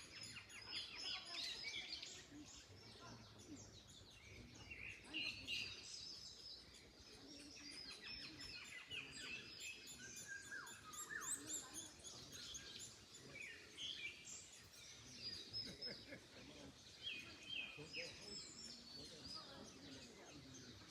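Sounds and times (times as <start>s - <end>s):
songbirds chirping and singing: 0.0s - 20.9s.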